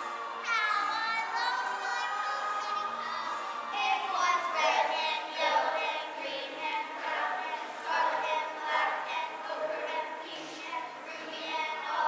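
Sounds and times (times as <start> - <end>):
children singing in chorus: 0.0 - 12.0.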